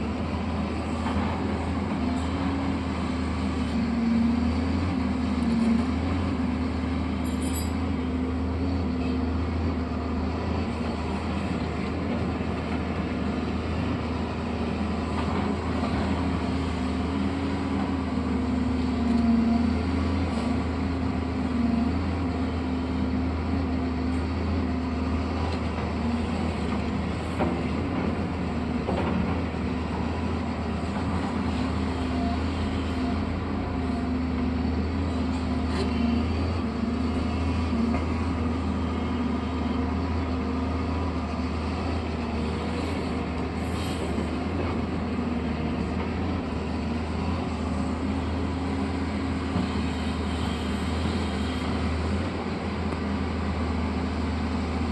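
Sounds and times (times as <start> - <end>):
heavy machine engine droning: 0.0 - 54.9.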